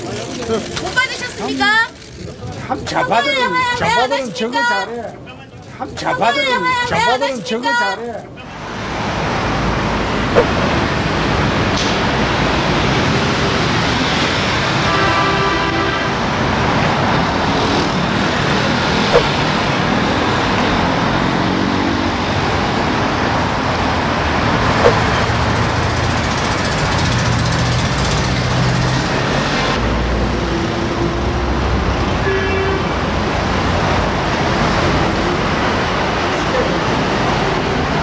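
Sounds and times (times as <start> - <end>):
road traffic noise: 0.0 - 38.0.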